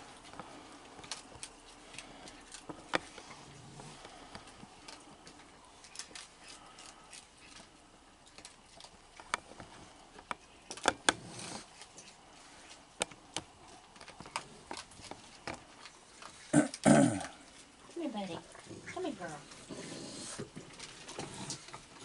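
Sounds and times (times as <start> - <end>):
raccoons feeding taps: 0.0 - 22.0.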